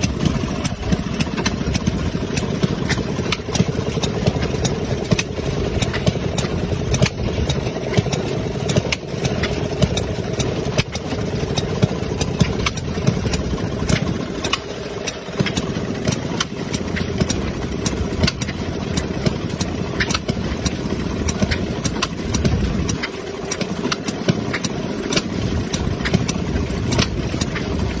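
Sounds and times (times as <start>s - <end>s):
washing machine clattering and ticking: 0.0s - 28.0s.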